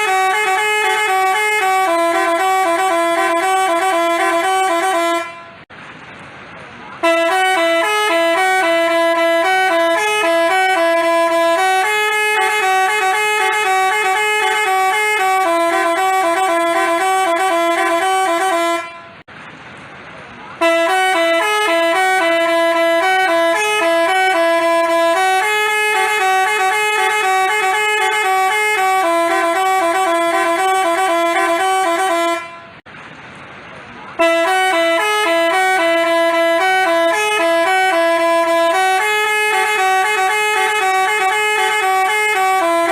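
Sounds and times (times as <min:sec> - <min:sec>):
musical bus horn melody: 0:00.0 - 0:05.7, 0:07.0 - 0:19.3, 0:20.6 - 0:32.9, 0:34.2 - 0:42.9.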